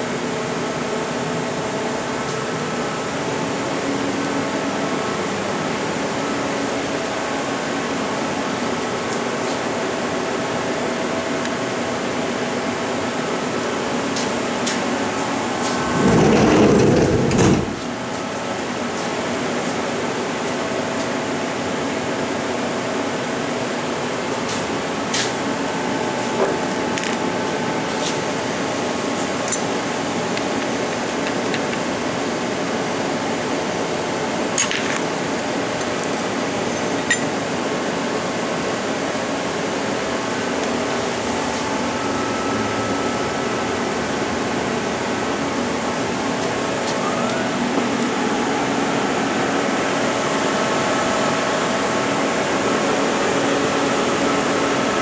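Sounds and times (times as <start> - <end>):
machine shop equipment humming: 0.0 - 55.0.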